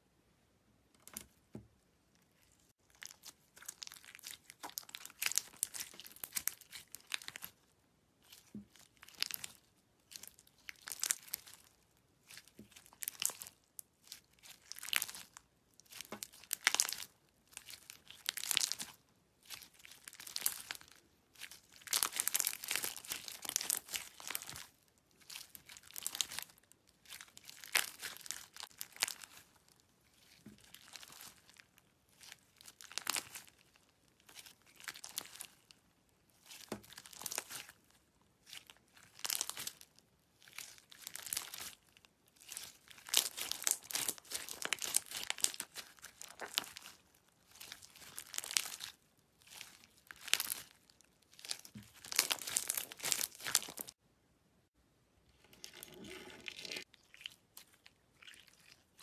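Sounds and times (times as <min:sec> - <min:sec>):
hands squeezing sticky slime: 0:02.2 - 0:54.0, 0:55.4 - 0:59.0.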